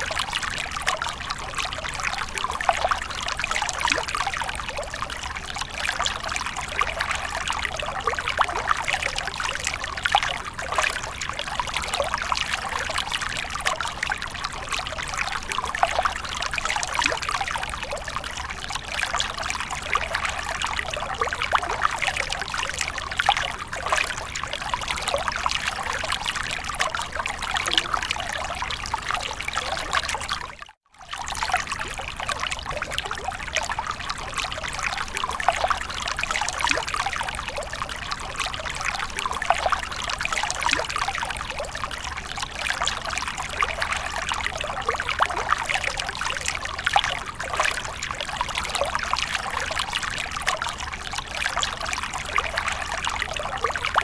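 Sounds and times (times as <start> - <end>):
water splashing and trickling: 0.0 - 54.0.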